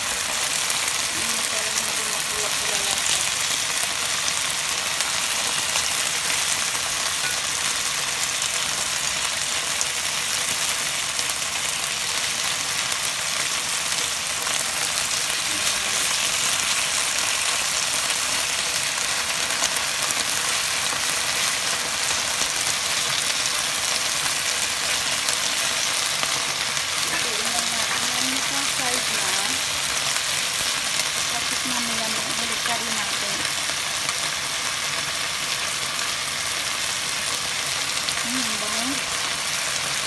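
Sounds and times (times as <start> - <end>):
beef sizzling in hot oil: 0.0 - 40.0.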